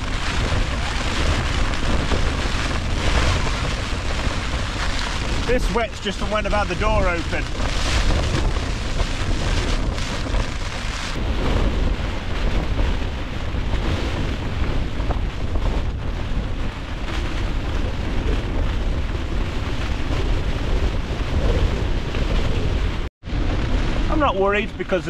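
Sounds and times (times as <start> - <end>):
wind gusting against tent: 0.0 - 25.0
wind rumble on microphone: 0.0 - 25.0.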